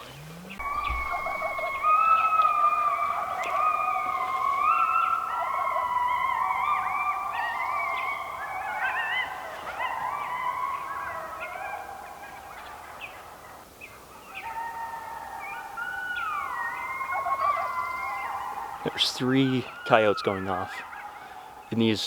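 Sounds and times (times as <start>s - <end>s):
coyotes howling and yipping: 0.0s - 22.0s
turkeys gobbling: 0.0s - 22.0s.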